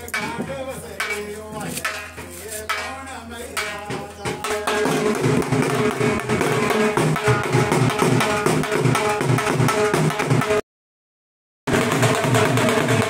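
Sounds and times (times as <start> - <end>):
dhol drum beating fast: 0.1 - 10.6, 11.7 - 13.0.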